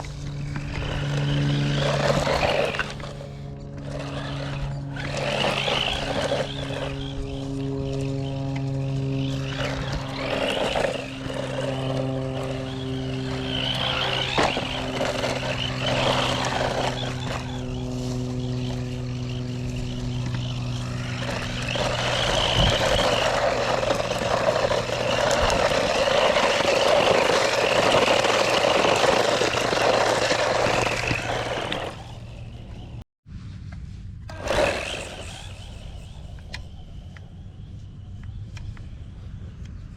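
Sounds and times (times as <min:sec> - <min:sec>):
toy truck motor whine: 0:00.0 - 0:33.0, 0:34.3 - 0:39.2
tyre noise: 0:00.0 - 0:33.0
steady low hum: 0:00.0 - 0:39.9.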